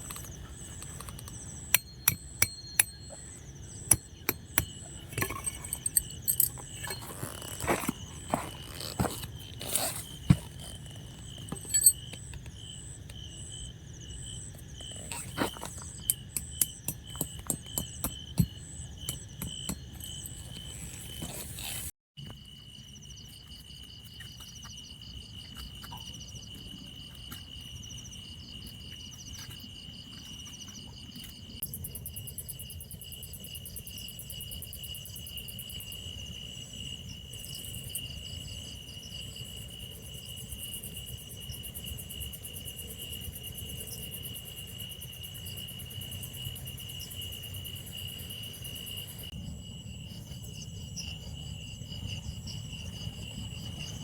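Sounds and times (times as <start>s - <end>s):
night insects chirring: 0.0s - 54.0s.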